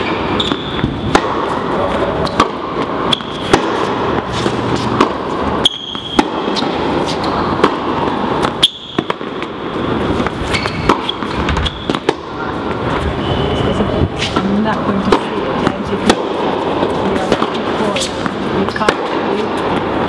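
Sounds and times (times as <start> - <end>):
ball bouncing on court: 0.0 - 1.6, 2.2 - 9.6, 10.2 - 12.8, 14.2 - 19.9
racquets striking tennis ball: 0.0 - 13.0, 14.2 - 20.0
steady background noise: 0.0 - 20.0.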